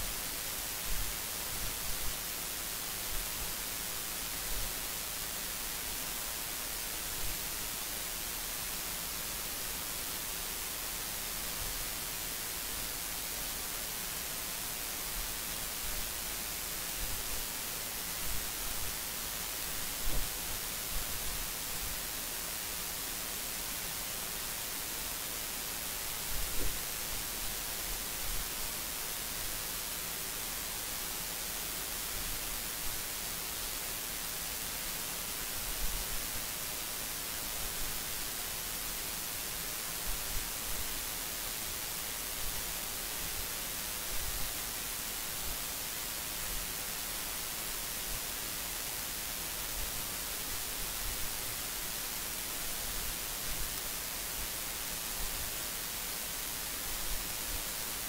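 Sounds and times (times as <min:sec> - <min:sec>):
steady static hiss: 0:00.0 - 0:58.0.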